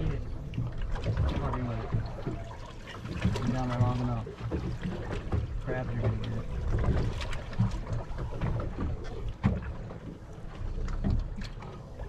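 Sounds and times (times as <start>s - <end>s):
knocks on boat: 0.0s - 9.9s
water sloshing against hull: 0.0s - 12.0s.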